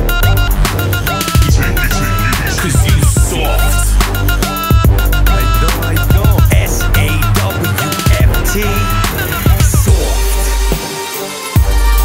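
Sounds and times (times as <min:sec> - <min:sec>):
hip hop music with heavy bass beat: 0:00.0 - 0:12.0.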